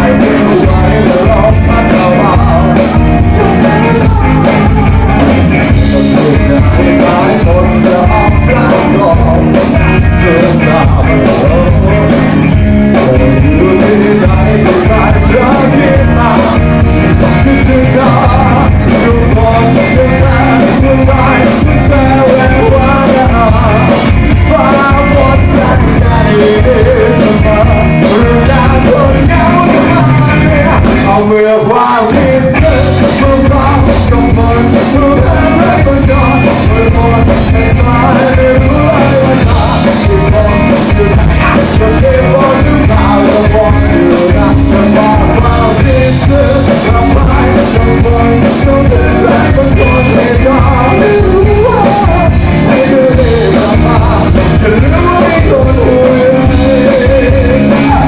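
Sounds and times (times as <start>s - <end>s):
bass: 0.0s - 58.0s
drums: 0.0s - 58.0s
electric guitars: 0.0s - 58.0s
person singing: 0.0s - 58.0s.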